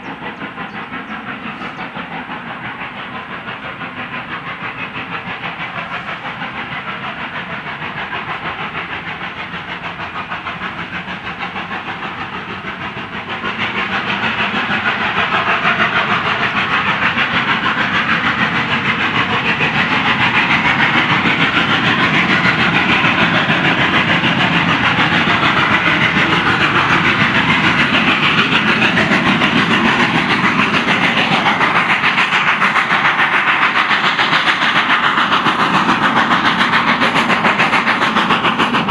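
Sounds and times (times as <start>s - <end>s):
steam locomotive hiss and rattle: 0.0s - 38.9s.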